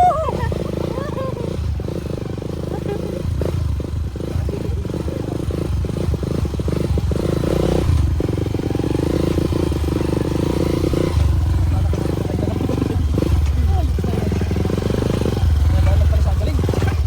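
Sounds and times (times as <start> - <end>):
motorcycle engine chugging: 0.0 - 17.0.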